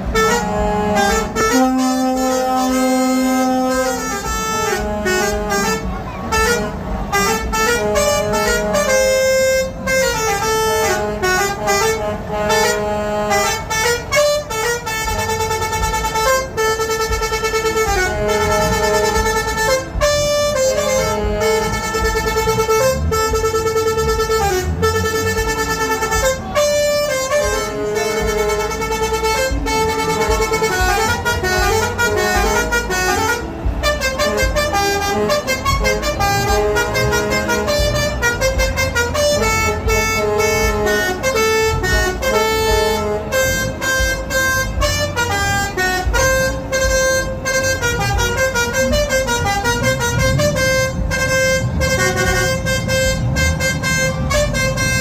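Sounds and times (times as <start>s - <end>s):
musical truck horns playing a tune: 0.0s - 55.0s
truck engine running: 0.0s - 55.0s.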